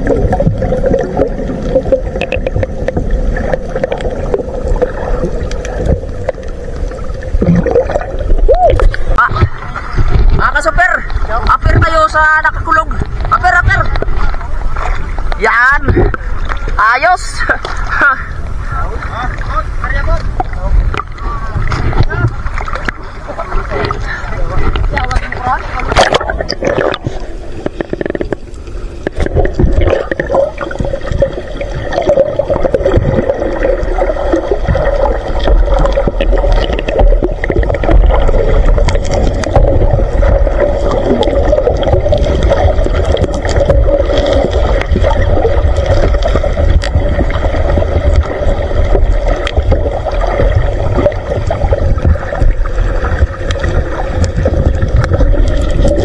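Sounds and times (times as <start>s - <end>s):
gurgling bubbles: 0.0s - 56.0s
muffled underwater rumble: 0.0s - 56.0s.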